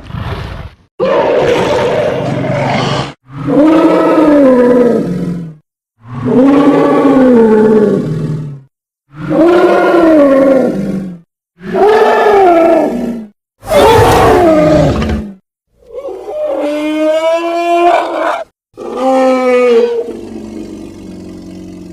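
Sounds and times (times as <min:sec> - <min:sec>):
creature roaring: 0:01.0 - 0:21.9.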